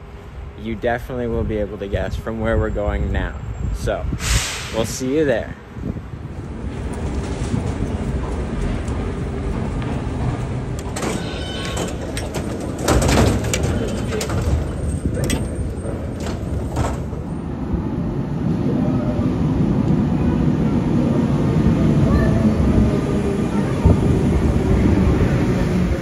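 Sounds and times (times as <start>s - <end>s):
metro train rumbling: 0.0s - 26.0s.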